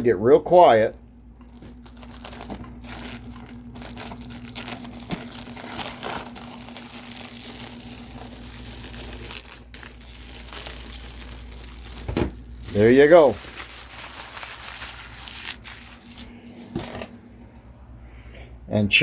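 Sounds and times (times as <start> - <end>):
faint steady hum: 0.0 - 19.0
plastic packaging crinkling and tearing: 0.1 - 16.8.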